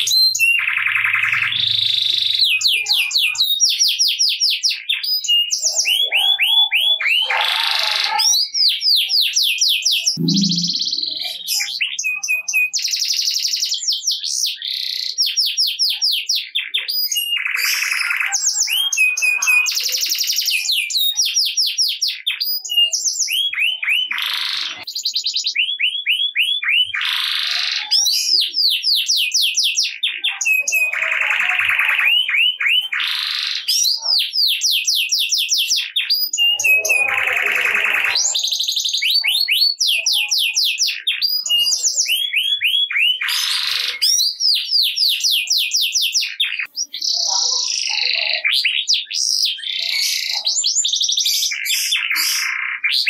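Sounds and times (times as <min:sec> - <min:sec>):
canary singing: 0:00.0 - 0:53.0.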